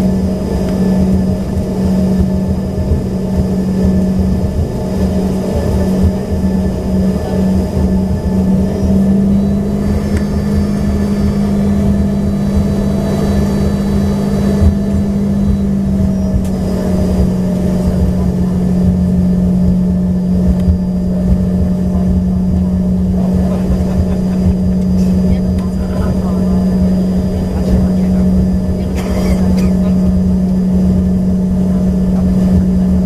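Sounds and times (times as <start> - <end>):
high engine whine: 0.0 - 33.0
jet engine cabin hum: 0.0 - 33.0
low rumble: 0.0 - 33.0.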